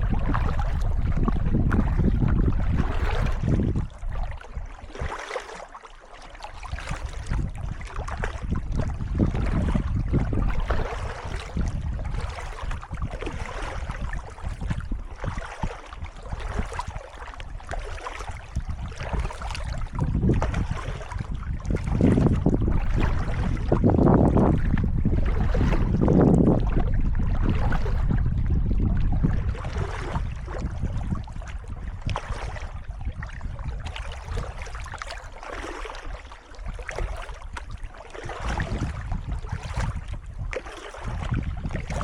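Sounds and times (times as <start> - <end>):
wind rumbling on microphone: 0.0 - 5.6, 6.4 - 42.0
paddle strokes splashing: 0.0 - 42.0.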